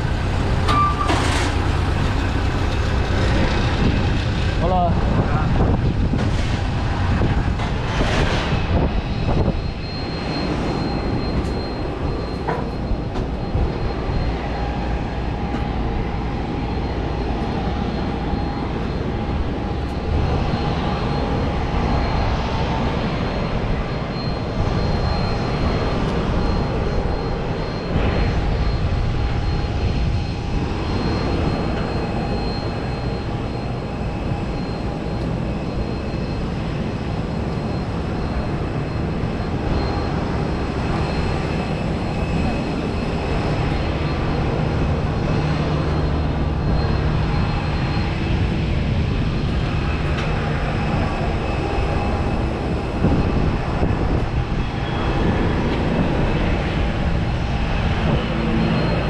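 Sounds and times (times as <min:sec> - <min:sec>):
aircraft high whine: 0:00.0 - 0:59.0
aircraft low hum: 0:00.0 - 0:59.0
heavy rumble: 0:00.0 - 0:59.0.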